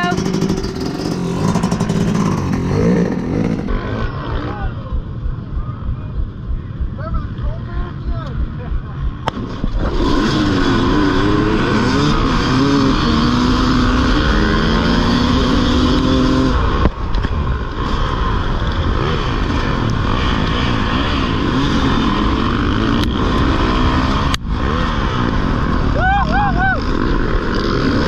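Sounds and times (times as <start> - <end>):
dirt bike engine accelerating: 0.0 - 28.0
other race bikes running: 0.0 - 28.0.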